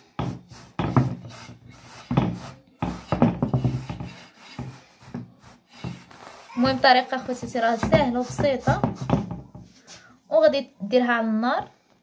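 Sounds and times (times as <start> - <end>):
hand rubbing dough in a pan: 0.0 - 10.5.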